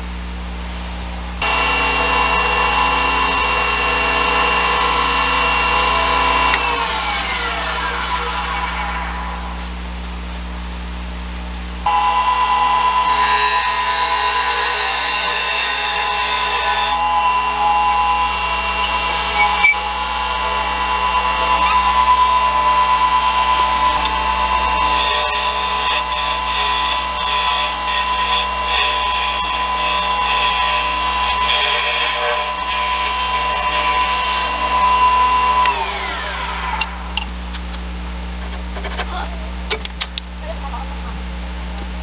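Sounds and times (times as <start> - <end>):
wood lathe whine: 1.4 - 9.9, 11.9 - 37.4.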